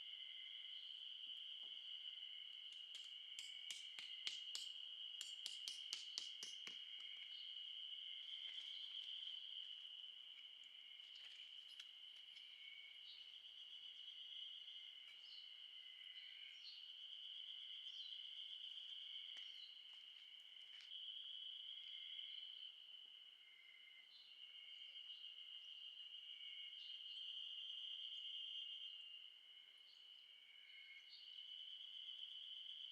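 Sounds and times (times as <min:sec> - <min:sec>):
high-pitched insect chorus: 0:00.0 - 0:32.9.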